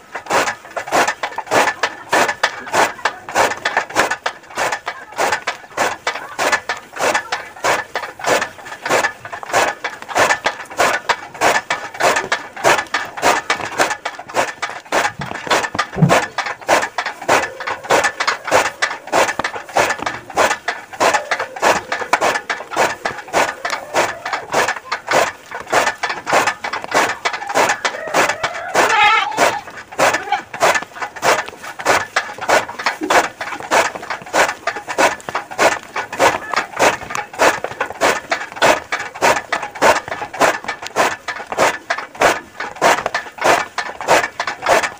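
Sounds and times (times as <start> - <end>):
chaff cutter chopping fodder: 0.0 - 44.9.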